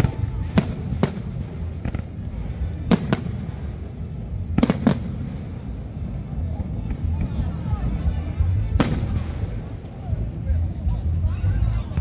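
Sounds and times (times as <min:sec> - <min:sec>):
firework bursts with sharp bangs: 0:00.0 - 0:10.4
low background rumble: 0:00.0 - 0:12.0.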